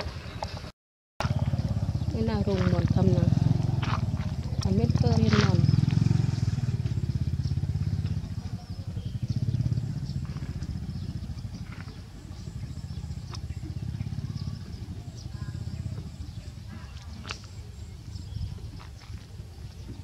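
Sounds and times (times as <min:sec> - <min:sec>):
small engine puttering: 0:00.0 - 0:20.0.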